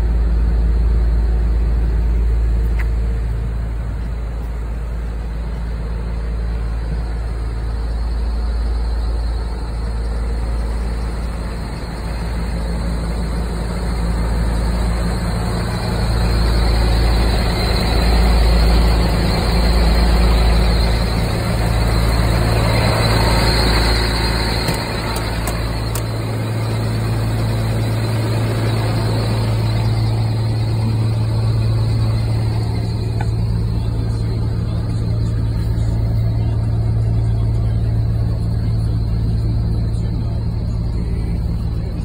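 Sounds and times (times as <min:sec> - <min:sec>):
truck diesel engine idling: 0:00.0 - 0:42.0.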